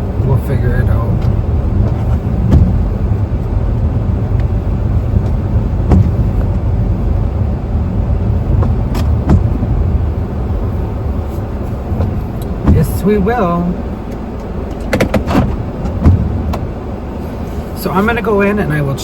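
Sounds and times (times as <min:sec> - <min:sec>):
car cabin road noise rumble: 0:00.0 - 0:19.0.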